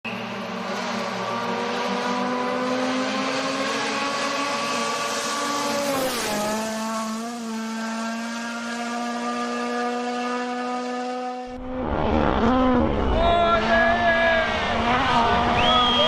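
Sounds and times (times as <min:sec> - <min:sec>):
rally car engine revving: 0:00.1 - 0:16.0.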